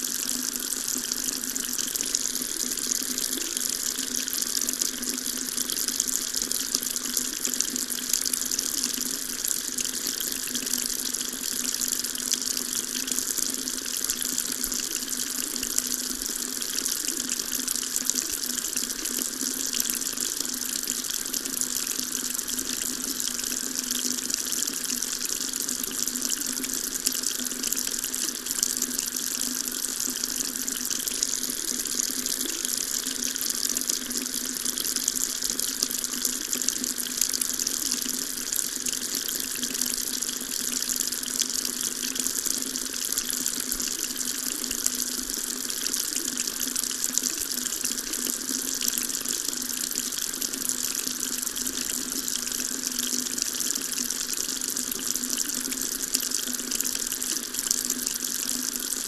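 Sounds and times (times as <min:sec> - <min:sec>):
water tap running: 0:00.0 - 0:59.0.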